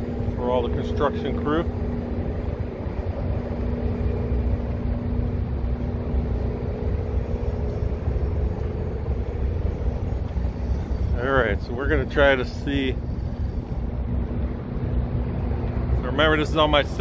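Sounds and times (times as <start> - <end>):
rumble of traffic: 0.0 - 17.0
steady hum: 0.0 - 17.0.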